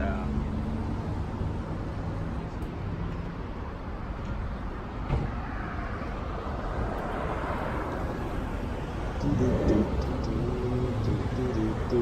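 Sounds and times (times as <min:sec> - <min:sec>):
traffic rumble with hiss: 0:00.0 - 0:12.0.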